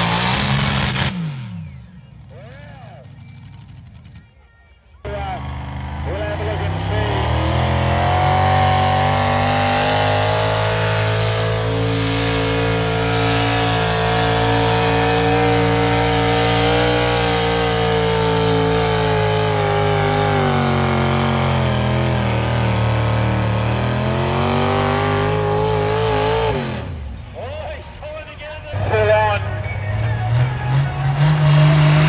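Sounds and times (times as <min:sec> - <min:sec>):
tractor engine at high revs: 0:00.0 - 0:04.4, 0:05.0 - 0:32.0.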